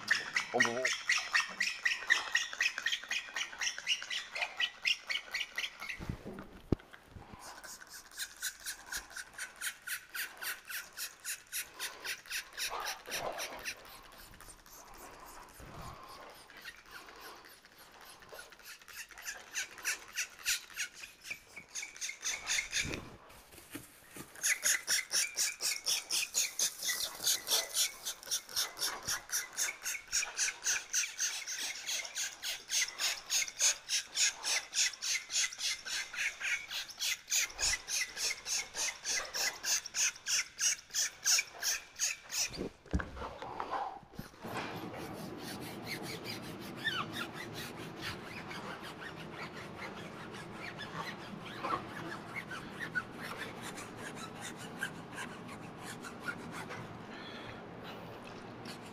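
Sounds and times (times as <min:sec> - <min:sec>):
tape rasping strokes: 0:00.0 - 0:58.0.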